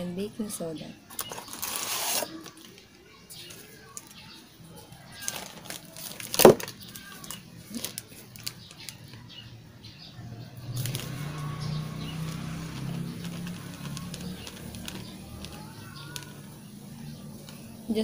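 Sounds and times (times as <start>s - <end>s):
plastic bag crinkling: 1.1s - 4.2s, 5.0s - 9.3s, 10.6s - 18.0s.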